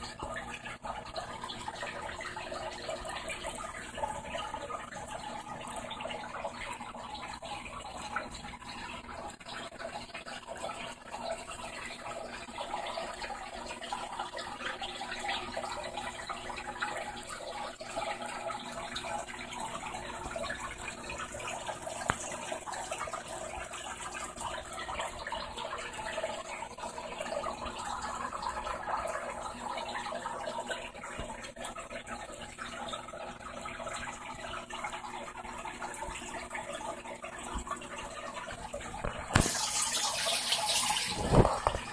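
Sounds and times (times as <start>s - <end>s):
aquarium filter water trickling: 0.0s - 41.9s.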